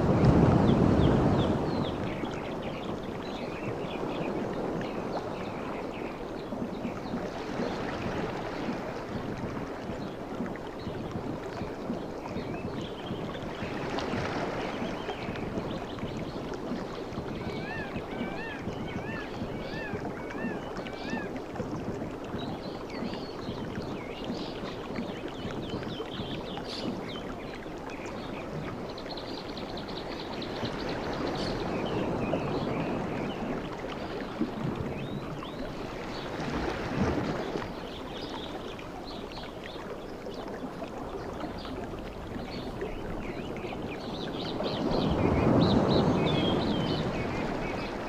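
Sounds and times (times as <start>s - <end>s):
sea surf washing on a beach: 0.0s - 48.0s
water fizzing and trickling: 0.0s - 48.0s.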